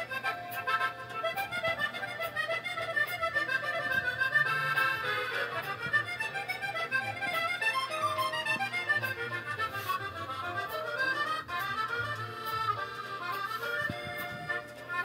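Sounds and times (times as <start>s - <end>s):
accordion music: 0.0s - 15.0s.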